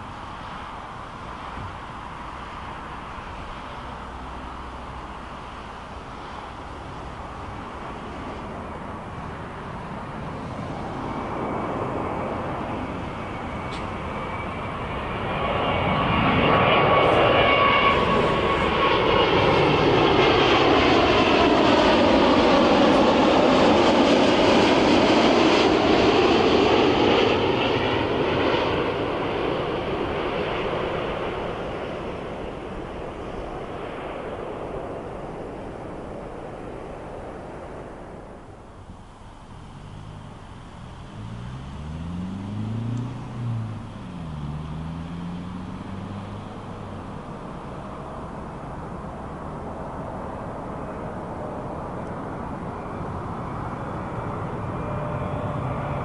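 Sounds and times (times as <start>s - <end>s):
jet airliner passing overhead: 0.0s - 56.0s.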